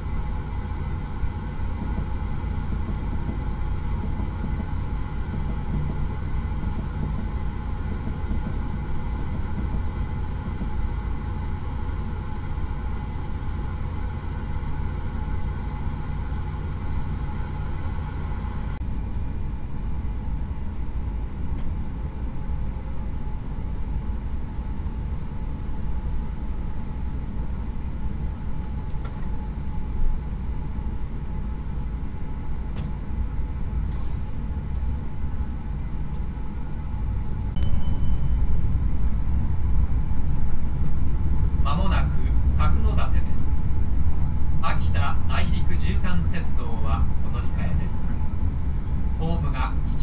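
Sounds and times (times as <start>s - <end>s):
steady whining tones: 0.0s - 50.0s
train car rumble and hum: 0.0s - 50.0s.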